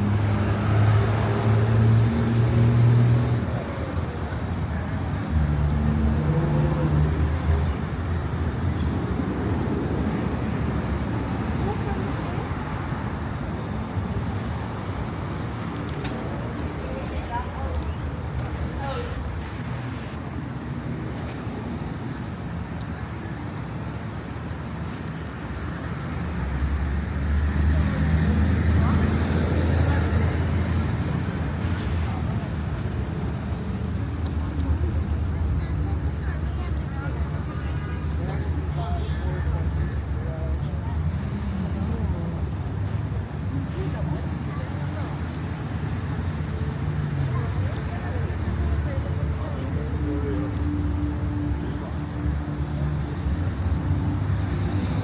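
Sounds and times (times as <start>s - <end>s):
car engines running: 0.0s - 55.0s
street traffic: 0.0s - 55.0s.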